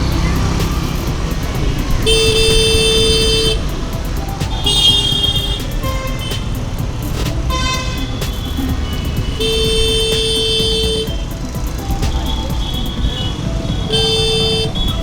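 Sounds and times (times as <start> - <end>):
traffic rumble: 0.0 - 15.0
vehicle horns honking: 0.0 - 15.0.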